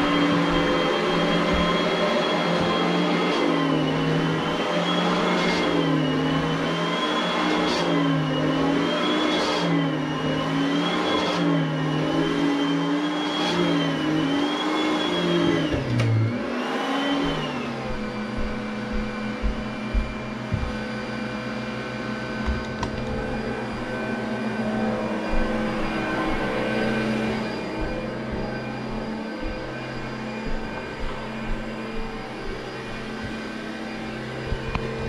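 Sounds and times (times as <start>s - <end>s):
vacuum cleaner running on carpet: 0.0s - 35.0s.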